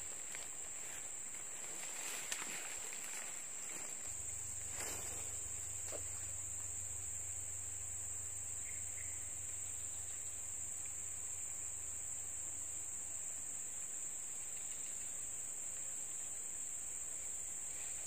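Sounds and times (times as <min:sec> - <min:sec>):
faint low hum: 0:00.0 - 0:18.0
insect chorus drone: 0:00.0 - 0:18.0.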